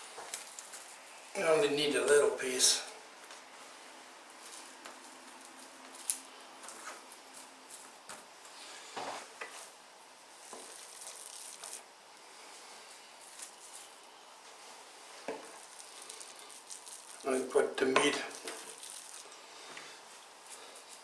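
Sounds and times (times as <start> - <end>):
plastic film rustling: 0.0 - 1.2, 4.3 - 9.8, 10.4 - 21.0.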